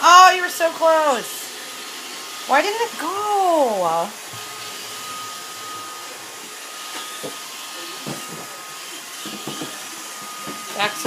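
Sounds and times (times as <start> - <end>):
robot vacuum whirring: 0.1 - 11.0.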